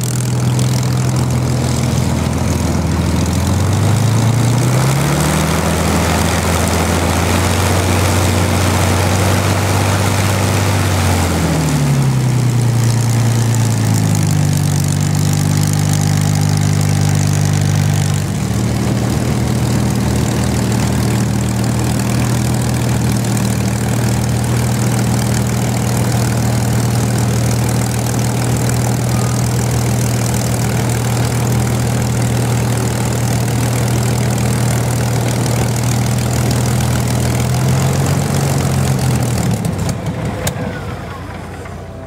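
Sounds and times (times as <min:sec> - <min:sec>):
aircraft engine idling: 0:00.0 - 0:42.0.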